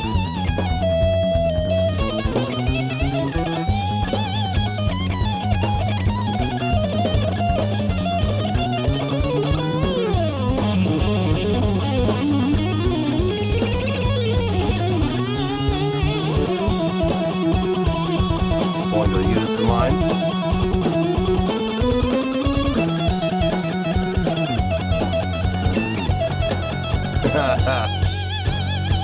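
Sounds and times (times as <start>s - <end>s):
bass guitar: 0.0s - 29.0s
busy drums: 0.0s - 29.0s
electric guitar lines: 0.0s - 29.0s.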